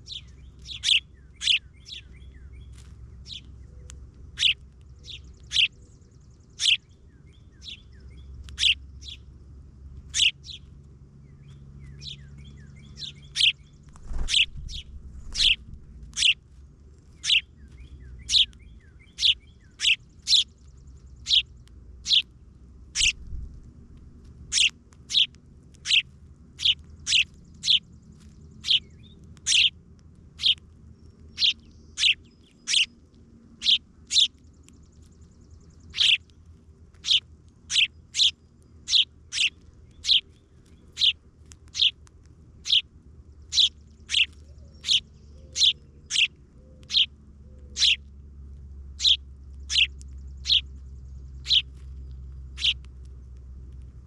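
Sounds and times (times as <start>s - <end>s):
songbird sharp chirps: 0.0s - 9.3s, 10.1s - 16.4s, 17.1s - 23.4s, 24.5s - 29.8s, 30.4s - 53.8s.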